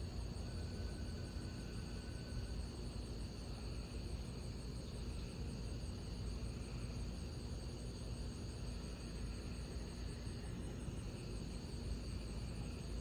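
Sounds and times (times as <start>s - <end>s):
crickets chirping: 0.0s - 13.0s
low background noise: 0.0s - 13.0s.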